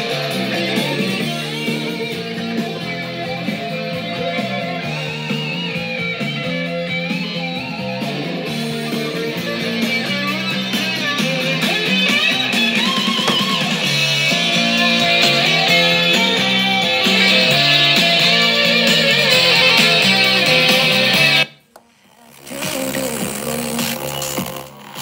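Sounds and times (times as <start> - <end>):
record player music through speakers: 0.0 - 25.0.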